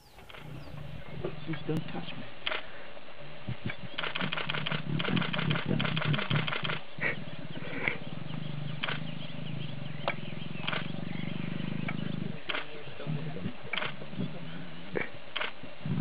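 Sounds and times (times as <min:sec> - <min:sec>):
lion growling: 0:00.0 - 0:02.3, 0:03.3 - 0:16.0.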